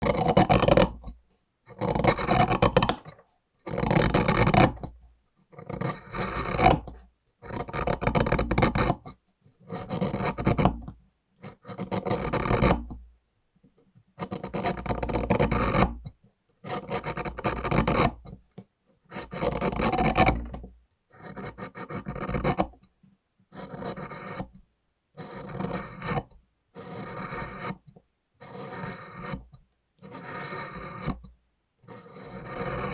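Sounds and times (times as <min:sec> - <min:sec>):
plaster being ground by hand: 0:00.0 - 0:05.0, 0:05.6 - 0:10.8, 0:11.5 - 0:13.0, 0:14.2 - 0:18.4, 0:19.1 - 0:20.6, 0:21.2 - 0:22.8, 0:23.5 - 0:24.5, 0:25.2 - 0:32.9.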